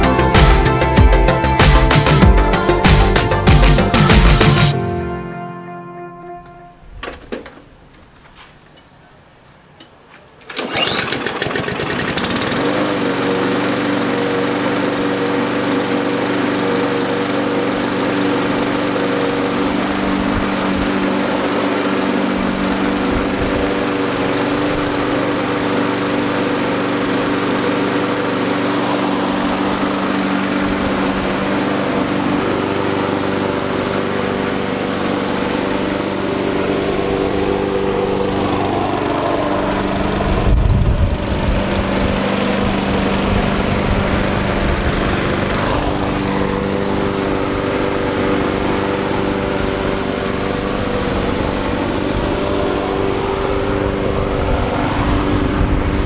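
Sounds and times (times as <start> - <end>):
lawn mower engine running: 0.0 - 5.3, 9.8 - 56.0.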